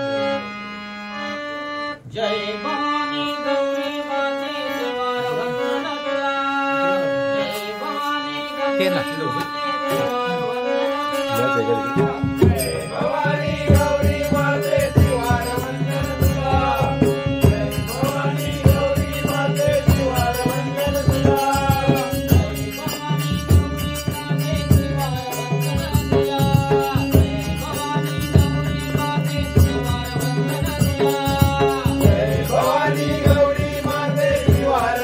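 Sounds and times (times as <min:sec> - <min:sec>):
harmonium chords: 0:00.0 - 0:35.0
man singing: 0:02.1 - 0:35.0.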